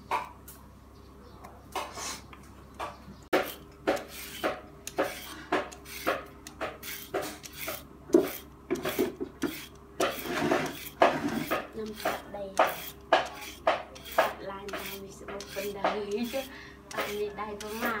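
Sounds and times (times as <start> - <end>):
peeler scraping carrot: 3.3 - 18.0
knife cutting on wooden board: 3.4 - 18.0.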